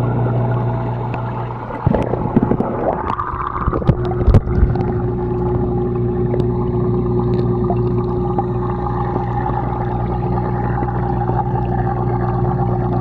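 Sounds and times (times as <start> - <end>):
air bubbling through water: 0.0 - 13.0
aquarium pump humming: 0.0 - 13.0.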